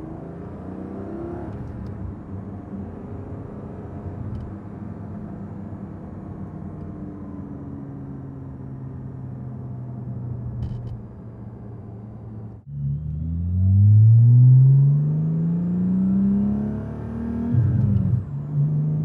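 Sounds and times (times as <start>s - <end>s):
car engine drone from cabin: 0.0s - 19.0s.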